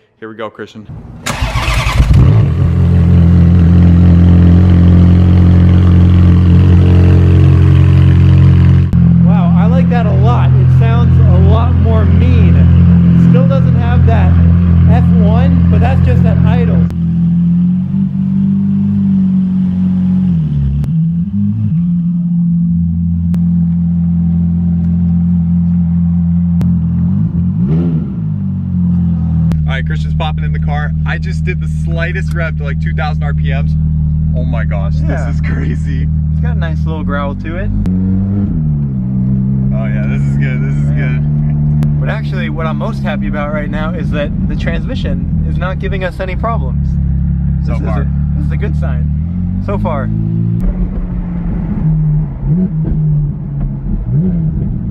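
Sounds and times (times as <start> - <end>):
car engine cranking and idling: 0.9 - 54.9.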